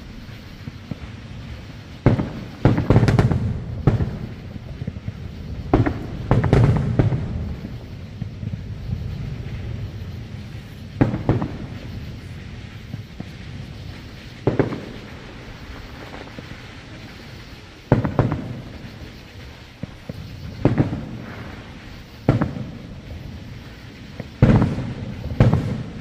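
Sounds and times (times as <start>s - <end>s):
firework shells bursting: 0.0s - 26.0s.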